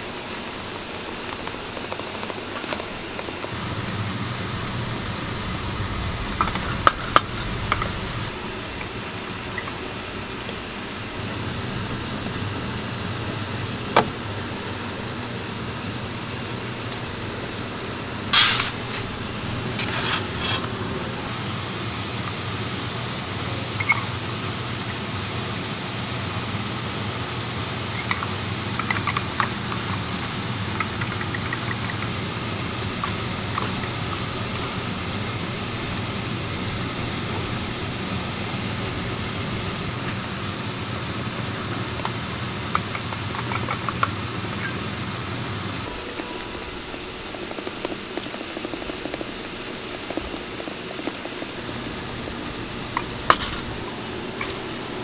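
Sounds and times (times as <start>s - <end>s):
background hum and hiss: 0.0s - 55.0s.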